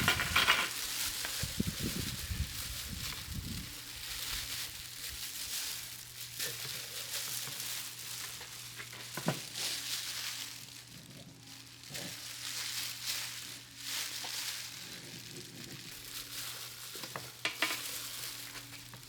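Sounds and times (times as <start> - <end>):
plastic glove rustling: 0.0 - 19.0.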